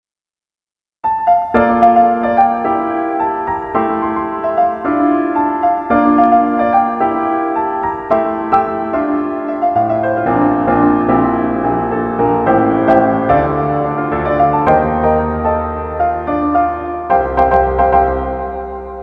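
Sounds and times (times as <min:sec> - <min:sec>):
piano playing slow chords: 0:01.1 - 0:19.0.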